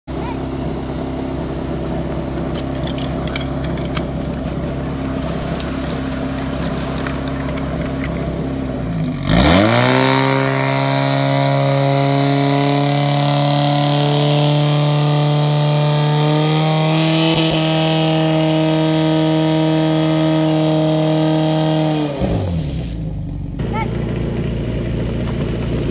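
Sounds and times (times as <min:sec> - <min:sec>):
fire pump engine revving: 0:00.1 - 0:25.9.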